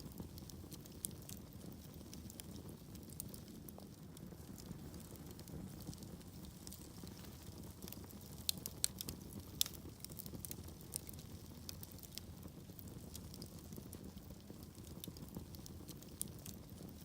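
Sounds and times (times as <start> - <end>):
fire crackling and popping: 0.0 - 17.0
rumble of flames: 0.0 - 17.0.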